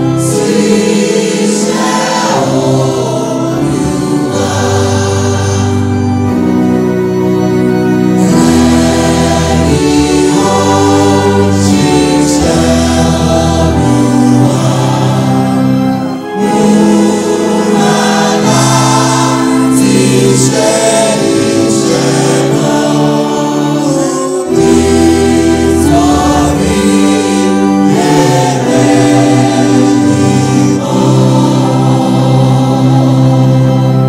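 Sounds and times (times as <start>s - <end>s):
choir singing a hymn: 0.0s - 34.0s.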